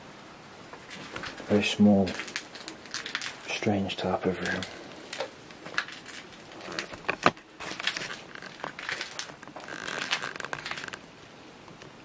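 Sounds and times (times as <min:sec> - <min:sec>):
debris crunching underfoot: 0:00.8 - 0:11.3.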